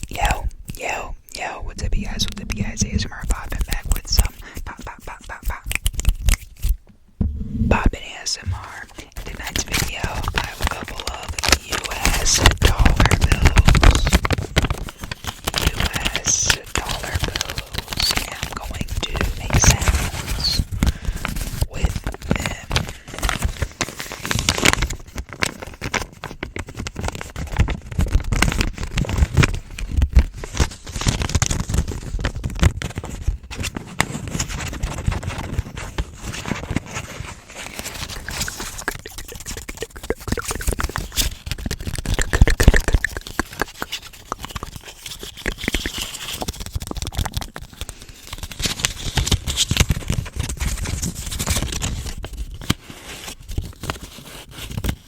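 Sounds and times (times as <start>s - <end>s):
paper bills being crinkled: 0.0s - 6.8s, 8.0s - 55.0s.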